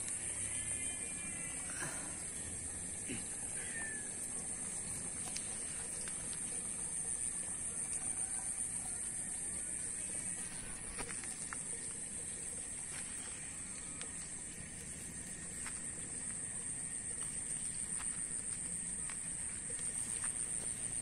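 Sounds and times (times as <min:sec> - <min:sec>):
steady high-pitched hiss: 0:00.0 - 0:21.0.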